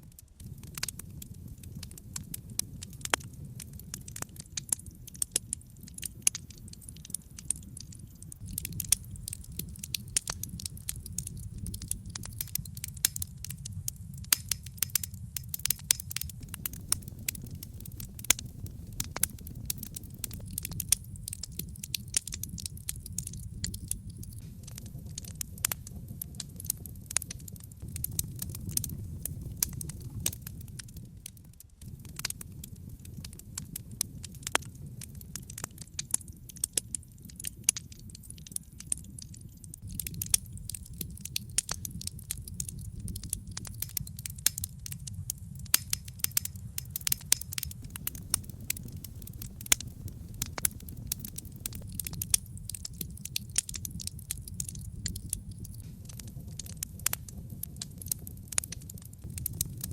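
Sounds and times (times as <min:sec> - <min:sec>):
burning wood crackling: 0:00.0 - 0:59.9
low rumble of flames: 0:00.0 - 0:59.9.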